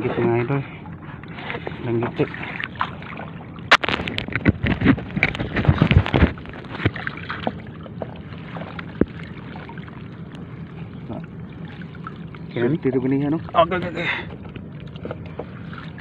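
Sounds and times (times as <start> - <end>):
water sloshing around boat: 0.0 - 16.0
knocks and splashes: 1.4 - 10.5, 11.1 - 16.0.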